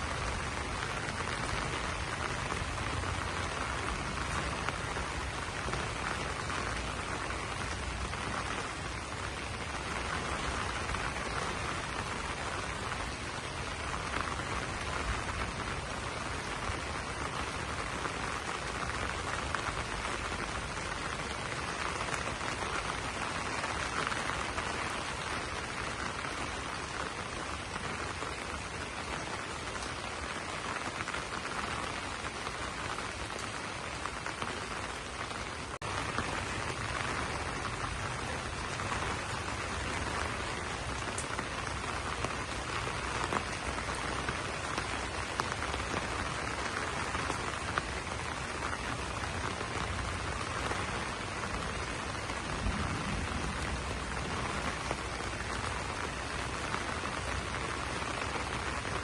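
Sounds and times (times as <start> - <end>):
rain on leaves: 0.0 - 59.0.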